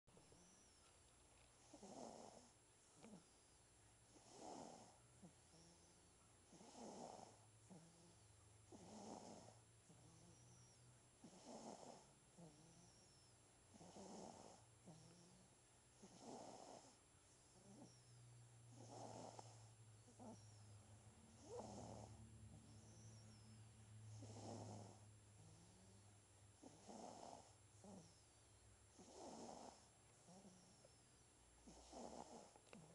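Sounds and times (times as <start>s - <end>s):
baby snoring softly: 1.6s - 32.9s.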